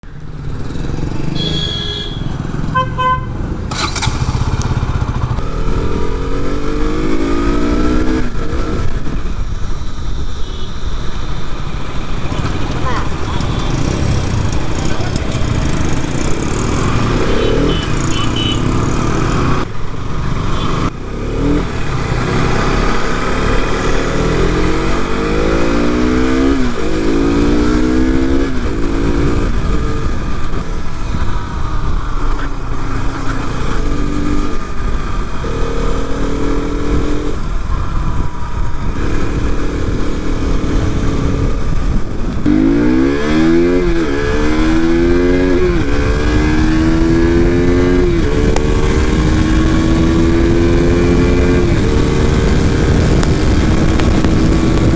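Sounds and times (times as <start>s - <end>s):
motorcycle engine accelerating: 0.0s - 9.9s, 11.8s - 54.9s.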